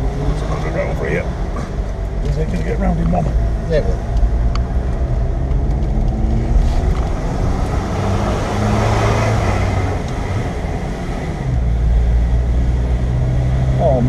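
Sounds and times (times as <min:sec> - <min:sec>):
car engine pulling uphill: 0:00.0 - 0:14.0
tyre and road noise: 0:00.0 - 0:14.0.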